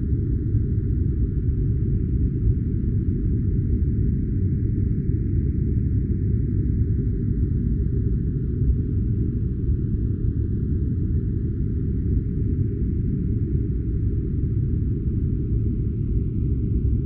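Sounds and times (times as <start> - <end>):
deep filtered white noise: 0.0 - 17.0.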